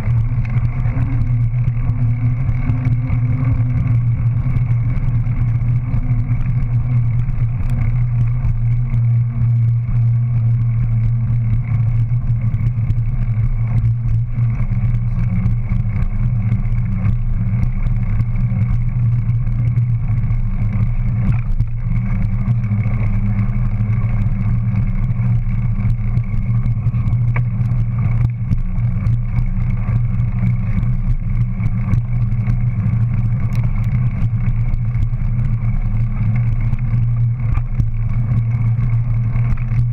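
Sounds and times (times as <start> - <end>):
bicycle tyre rolling on concrete: 0.0 - 39.9
faint clicks and knocks: 0.0 - 39.9.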